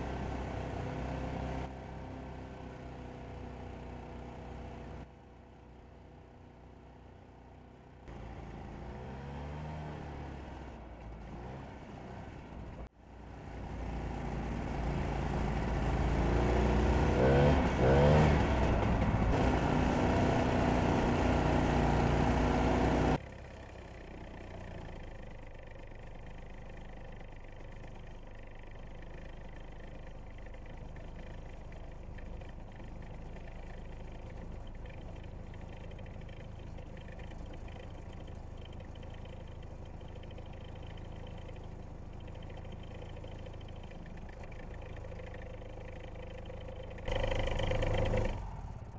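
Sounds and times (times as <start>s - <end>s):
snowmobile engines running: 0.0s - 5.1s, 8.1s - 48.9s.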